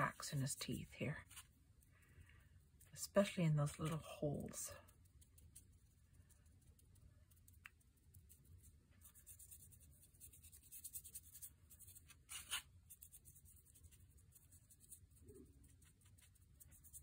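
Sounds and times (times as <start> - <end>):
paintbrush scratching and dabbing: 0.0 - 17.0.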